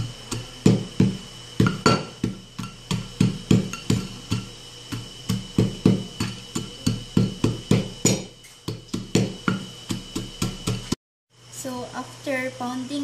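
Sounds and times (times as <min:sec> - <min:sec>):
pestle pounding in ceramic bowl: 0:00.0 - 0:11.0.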